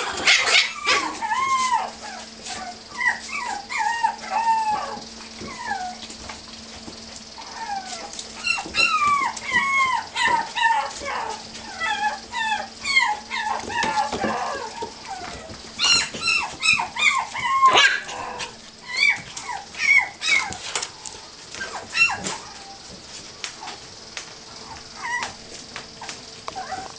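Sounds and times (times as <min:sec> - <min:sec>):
puppies whimpering and yipping: 0:00.0 - 0:23.9, 0:24.5 - 0:26.9.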